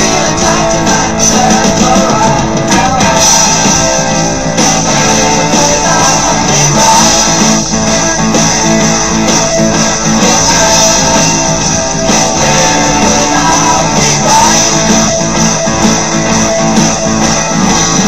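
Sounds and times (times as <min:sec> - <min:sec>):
rock music with electric guitars: 0:00.0 - 0:18.0.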